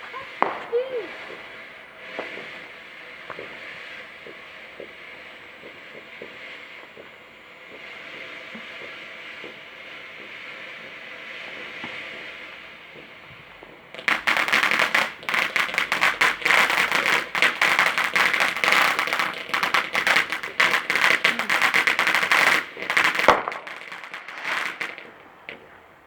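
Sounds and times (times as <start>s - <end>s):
firework crackling: 0.0s - 26.0s
low firework hiss: 0.0s - 26.0s.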